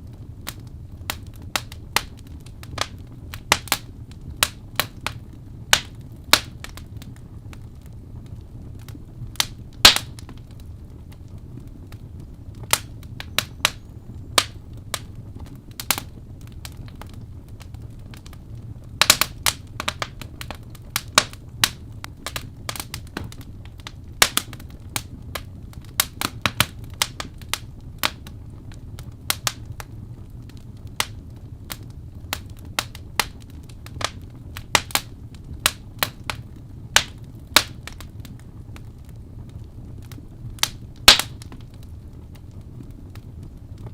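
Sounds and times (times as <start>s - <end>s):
fireplace fire crackling and popping: 0.0s - 43.9s.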